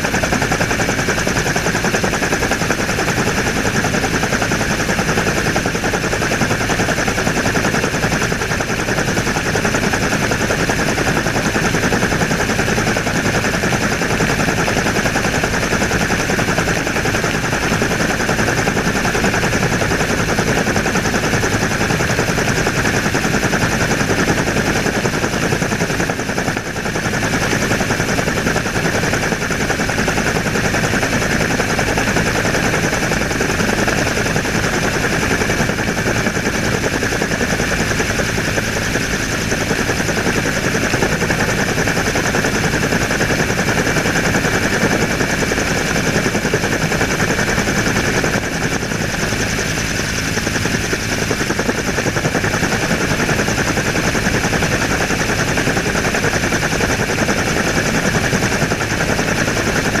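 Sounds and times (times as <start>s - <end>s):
helicopter engine whine: 0.0s - 60.0s
helicopter rotor blades chopping: 0.0s - 60.0s.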